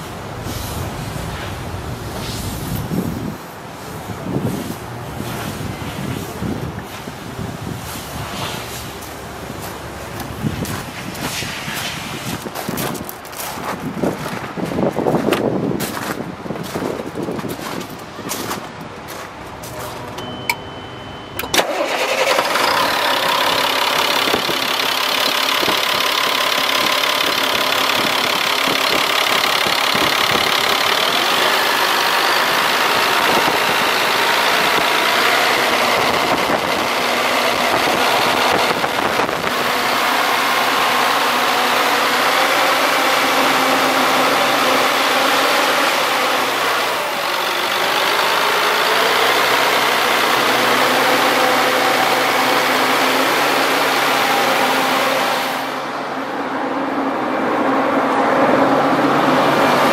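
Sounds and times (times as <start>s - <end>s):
diesel engine idling: 0.0s - 11.4s, 19.3s - 59.9s.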